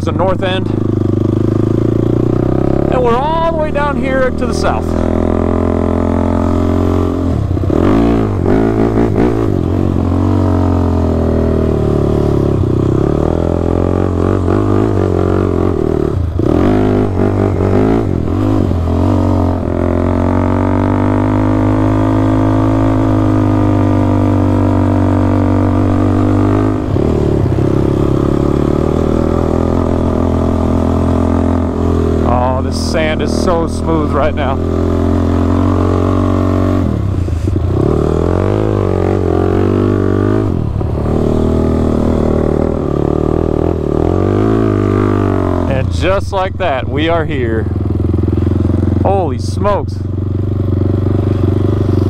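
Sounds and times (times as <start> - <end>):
atv engine revving: 0.0 - 52.0.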